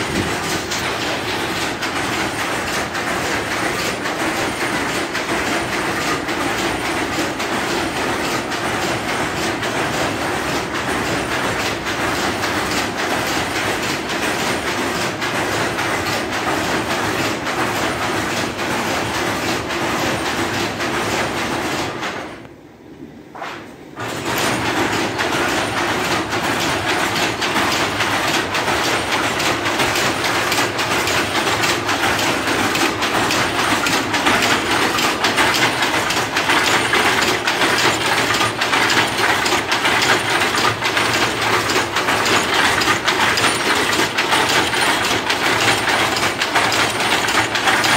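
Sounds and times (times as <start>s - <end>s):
power looms clattering: 0.0s - 22.4s, 24.0s - 47.9s.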